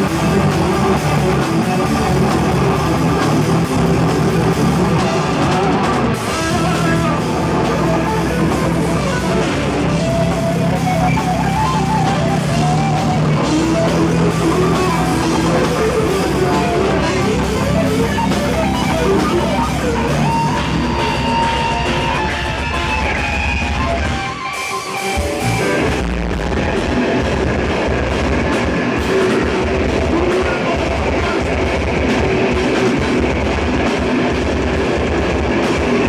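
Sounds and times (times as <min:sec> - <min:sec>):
distorted electric guitars: 0:00.0 - 0:36.0
drum kit: 0:00.0 - 0:36.0
lead guitar line: 0:00.0 - 0:36.0.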